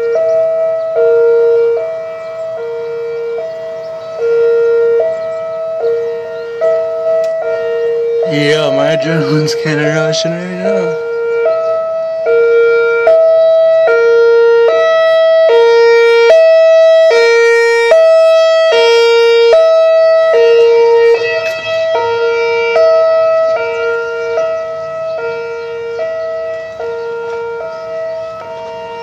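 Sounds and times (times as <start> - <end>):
two-tone siren: 0.0 - 29.0.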